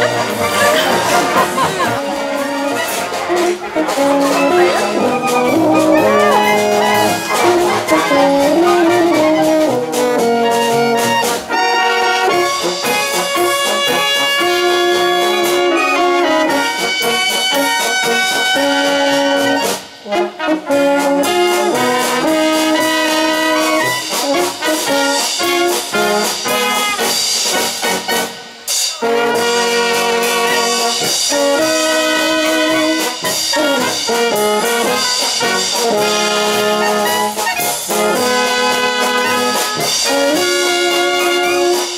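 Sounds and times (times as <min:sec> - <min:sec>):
brass band playing chords: 0:00.0 - 0:41.9.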